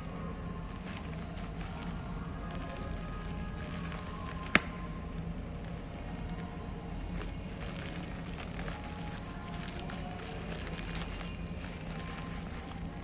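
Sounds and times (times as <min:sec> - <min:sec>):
packaging crinkling: 0:00.0 - 0:13.0
steady low hum: 0:00.0 - 0:13.0.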